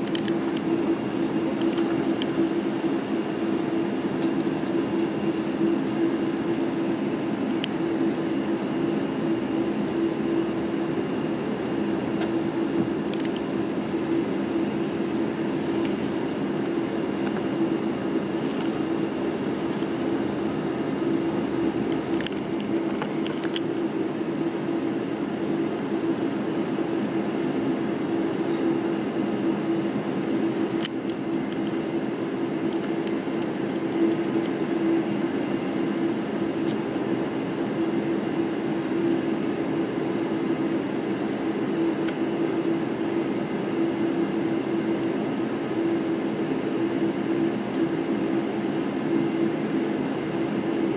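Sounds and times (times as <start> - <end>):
jet engines humming at idle: 0.0 - 50.9.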